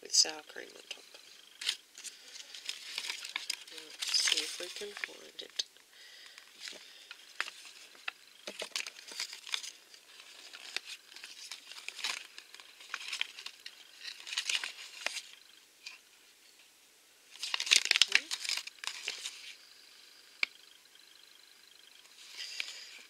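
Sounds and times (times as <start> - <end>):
paper crinkling: 0.8 - 16.0, 17.3 - 19.6, 22.0 - 23.0.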